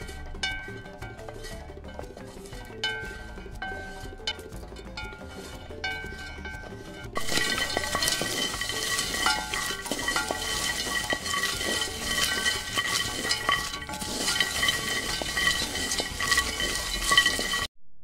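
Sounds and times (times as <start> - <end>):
beans rattling in a pot: 0.0 - 17.7.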